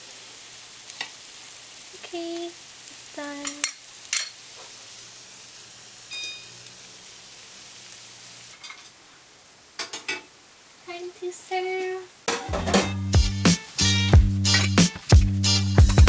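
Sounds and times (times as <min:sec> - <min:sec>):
egg sizzling in a frying pan: 0:00.0 - 0:16.0.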